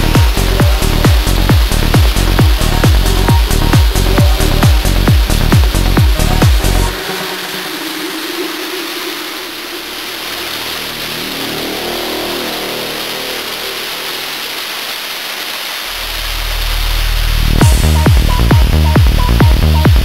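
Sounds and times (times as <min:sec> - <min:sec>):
low hum: 0:00.0 - 0:20.0
waterfall pouring: 0:00.0 - 0:20.0.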